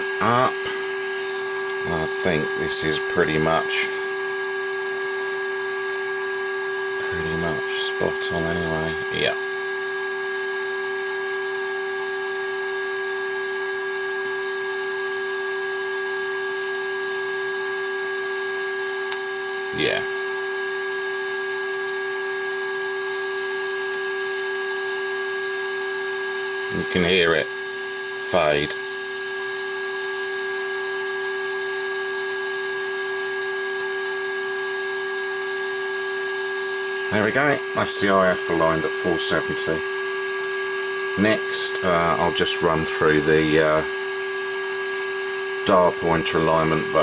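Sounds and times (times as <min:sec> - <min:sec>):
steady test tone from radio speaker: 0:00.0 - 0:47.0.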